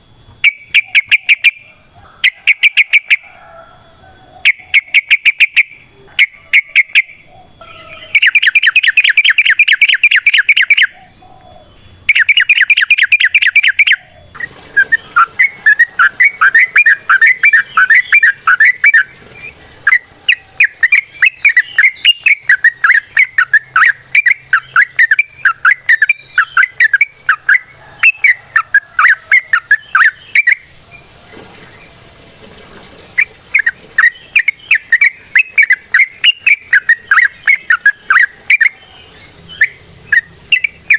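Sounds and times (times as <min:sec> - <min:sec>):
bulbul singing rapid chirps: 0:00.0 - 0:30.8, 0:33.2 - 0:40.9.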